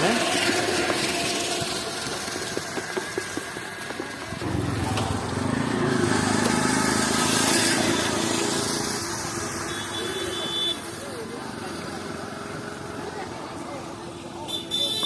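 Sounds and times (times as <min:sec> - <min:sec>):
small engine running: 0:00.0 - 0:14.0
street noise: 0:00.0 - 0:15.0.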